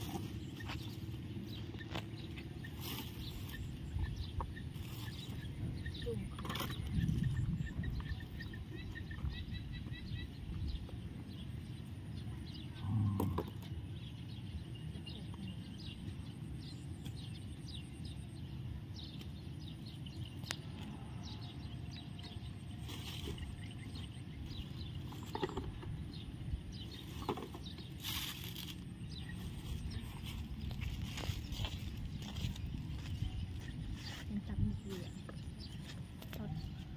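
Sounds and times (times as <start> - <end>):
low outdoor rumble: 0.0 - 36.9
small birds chirping: 0.0 - 36.9.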